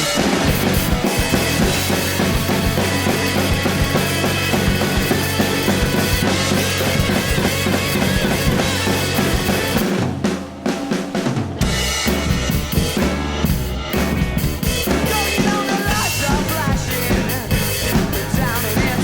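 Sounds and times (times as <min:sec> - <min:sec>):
drum kit playing: 0:00.0 - 0:19.0
rock backing track: 0:00.0 - 0:19.0.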